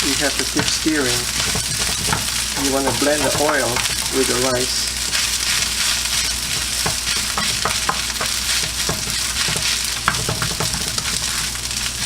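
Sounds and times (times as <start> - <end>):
rice sizzling in a pan: 0.0 - 12.0
utensil scraping a pan: 0.0 - 12.0.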